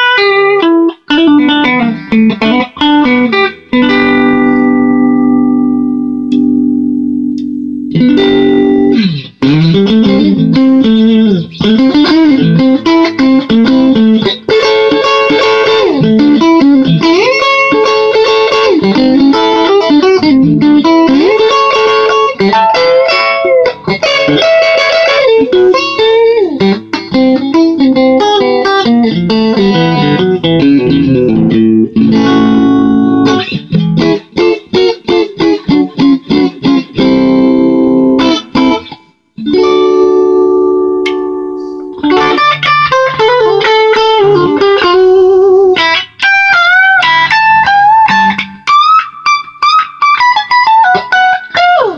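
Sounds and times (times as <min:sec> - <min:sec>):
electric guitar chopped chords: 0:00.0 - 0:51.9
electric guitar lead lines: 0:00.0 - 0:51.9.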